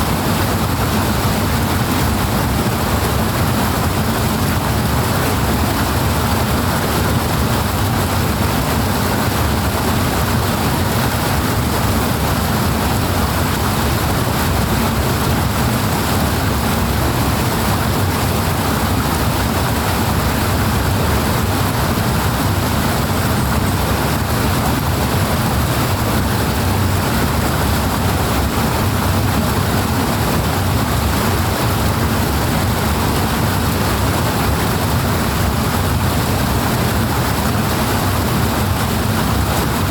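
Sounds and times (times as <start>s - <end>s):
water rushing with deep rumble: 0.0s - 39.9s.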